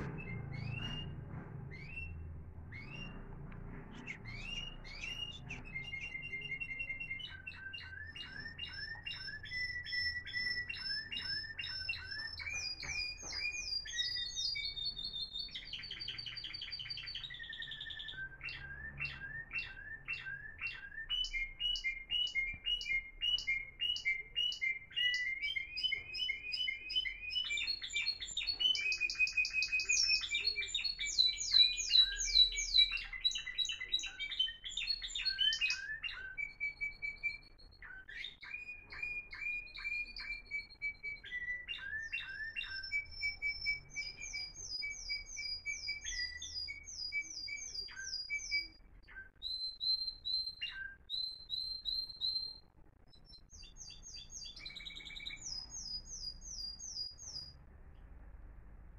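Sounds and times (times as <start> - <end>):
canaries singing trills: 0.0 - 58.9.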